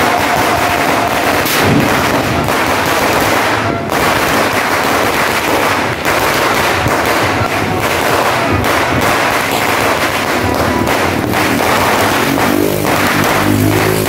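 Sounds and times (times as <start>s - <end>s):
firecracker string going off: 0.0s - 14.0s.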